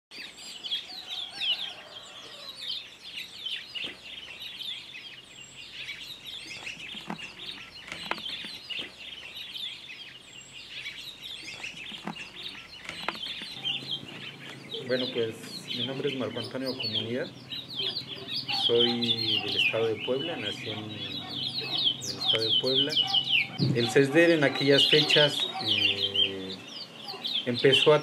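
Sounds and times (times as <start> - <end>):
birds chirping chorus: 0.1 - 28.0
sharp bird calls: 0.1 - 28.0.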